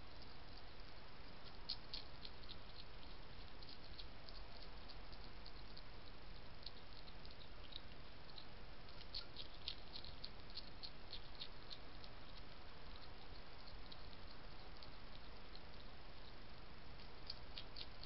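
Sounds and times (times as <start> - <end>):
steady hiss: 0.0 - 18.0
hedgehog crunching biscuits: 0.2 - 18.0.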